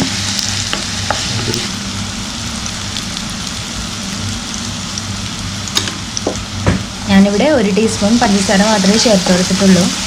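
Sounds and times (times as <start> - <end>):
banana frying in a pan: 0.0 - 10.0
faint crackles of frying: 0.0 - 10.0.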